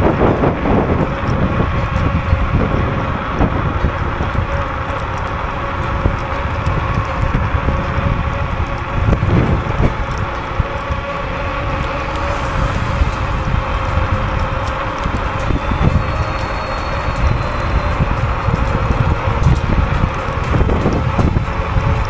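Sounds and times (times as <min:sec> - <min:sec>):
faint steady whine: 0:00.0 - 0:22.0
tyre noise on road: 0:00.0 - 0:22.0
wind rushing over microphone: 0:00.0 - 0:22.0.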